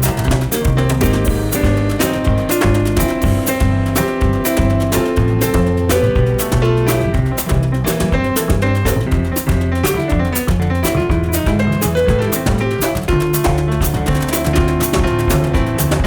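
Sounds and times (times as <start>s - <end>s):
bass: 0.0s - 16.0s
drum kit: 0.0s - 16.0s
piano: 0.0s - 16.0s.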